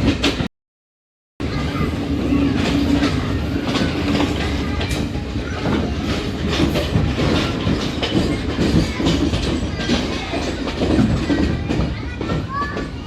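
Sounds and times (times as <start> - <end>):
train wheels clattering over rail joints: 0.0 - 0.5, 1.5 - 13.0.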